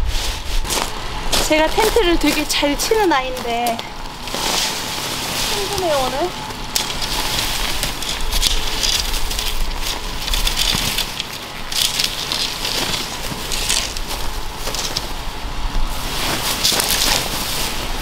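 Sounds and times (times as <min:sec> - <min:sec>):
dry leaves crunching underfoot: 0:00.0 - 0:18.0
tent fabric rustling: 0:00.0 - 0:18.0.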